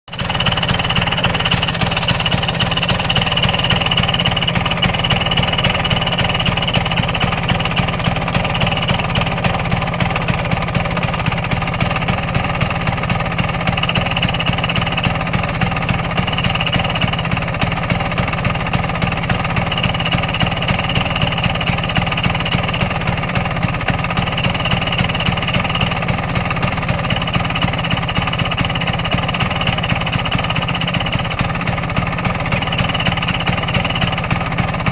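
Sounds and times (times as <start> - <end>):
badge rattling from vibration: 0.1 - 17.4, 19.4 - 23.2, 24.1 - 34.9
scooter engine idling: 0.1 - 34.9.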